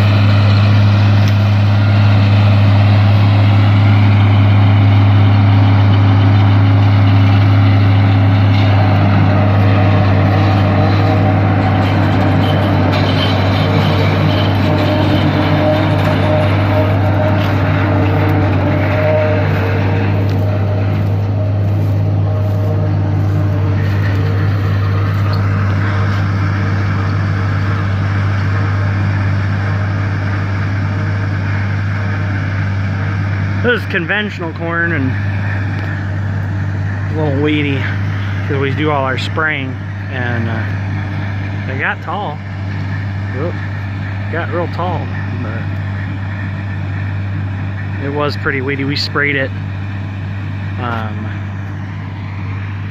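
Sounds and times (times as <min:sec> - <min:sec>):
harvester machinery noise: 0:00.0 - 0:52.9
tractor diesel engine drone: 0:00.0 - 0:52.9.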